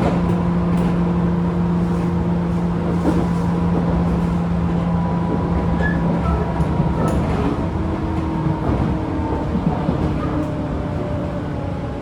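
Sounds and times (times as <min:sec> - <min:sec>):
wheel and rail rumble: 0:00.0 - 0:12.0.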